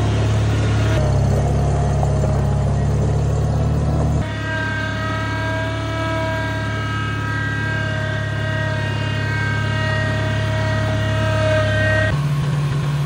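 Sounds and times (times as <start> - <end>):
high machine whine: 0.0 - 13.0
loader-backhoe engine running: 0.0 - 13.0.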